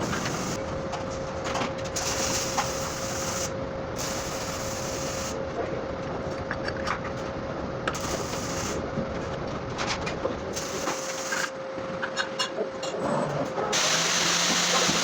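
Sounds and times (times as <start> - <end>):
constant machine noise: 0.0 - 15.0
machine whine: 0.0 - 15.0.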